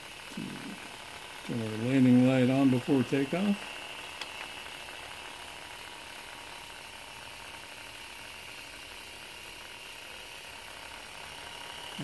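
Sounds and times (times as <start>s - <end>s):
toy helicopter motors whining: 0.0s - 12.0s.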